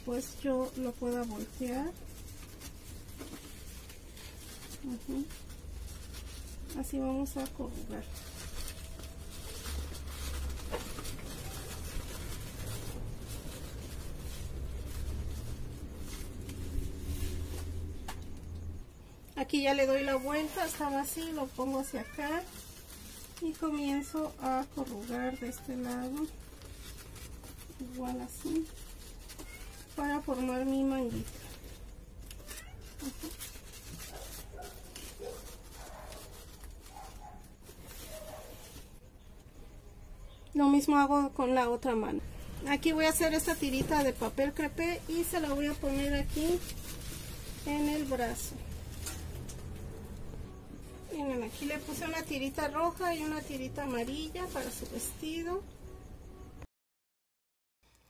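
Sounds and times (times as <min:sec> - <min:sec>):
crepe paper rustling and crinkling: 0:00.0 - 0:18.8, 0:19.4 - 0:39.1, 0:42.2 - 0:55.6.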